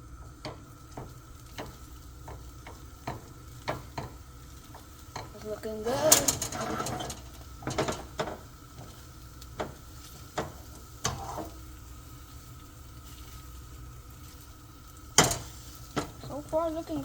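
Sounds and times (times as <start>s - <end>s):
eggs sizzling in oil: 0.0s - 17.0s.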